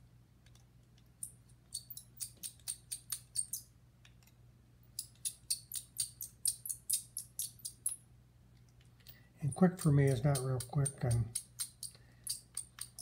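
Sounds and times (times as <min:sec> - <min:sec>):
metal tool clicking on plastic: 0:00.4 - 0:08.0, 0:08.7 - 0:13.0.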